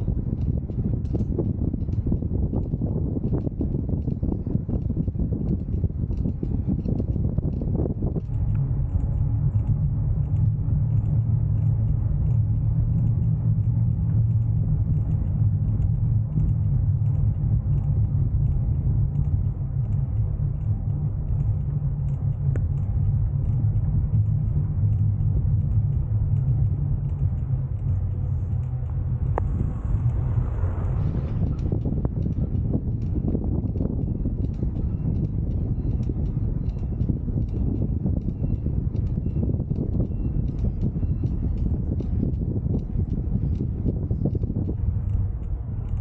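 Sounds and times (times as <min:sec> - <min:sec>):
bicycle tyre rumble on path: 0:00.0 - 0:46.0
wind on microphone: 0:00.0 - 0:46.0.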